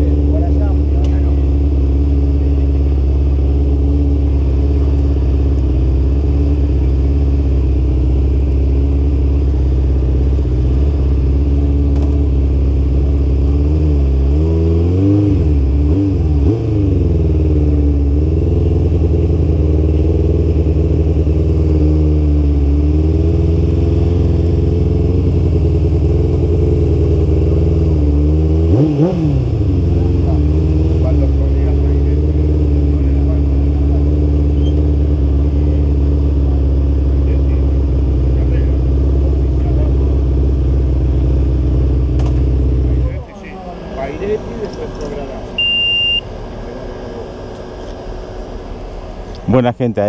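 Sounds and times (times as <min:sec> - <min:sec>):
motorcycle engine at low revs: 0:00.0 - 0:50.0.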